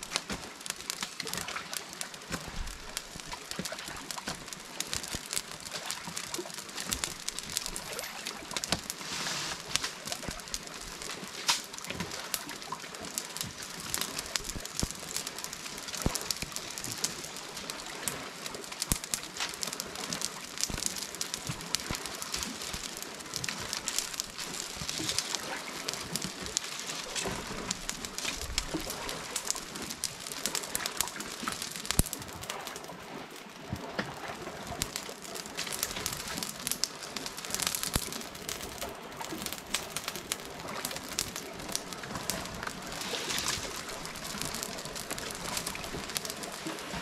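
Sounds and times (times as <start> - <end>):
palm fronds crackling in fire: 0.0 - 47.0.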